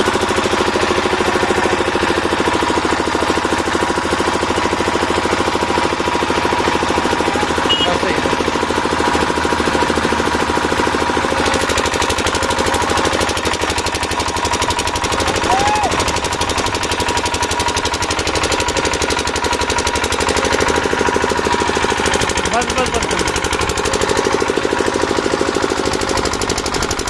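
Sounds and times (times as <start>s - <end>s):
machine hammering rapidly: 0.0s - 27.0s.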